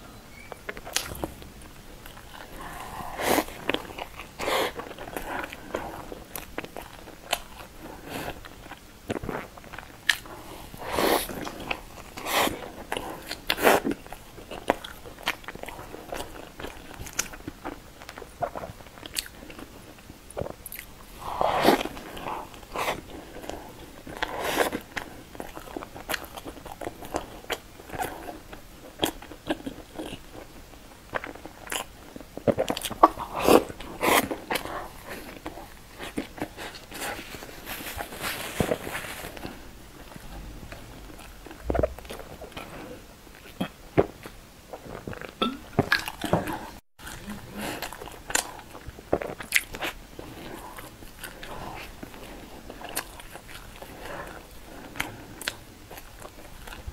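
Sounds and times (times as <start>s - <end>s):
biting and chewing pastry: 0.6s - 56.9s.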